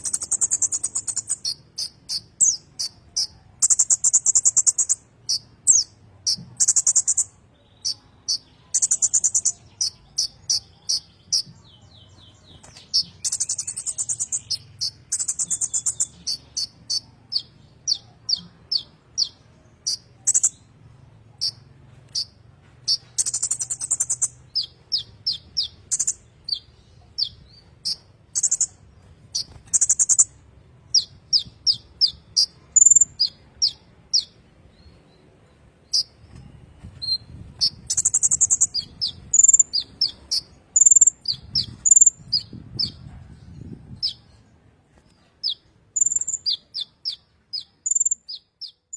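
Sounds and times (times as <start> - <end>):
sunbird singing buzzy trills: 0.0 - 48.9.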